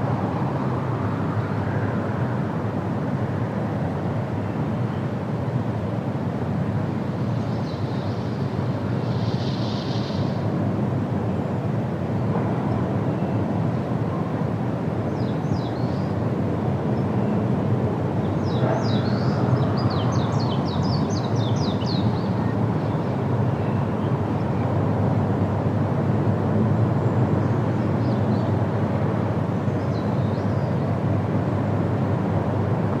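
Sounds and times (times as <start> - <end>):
wind rushing through trees: 0.0 - 33.0.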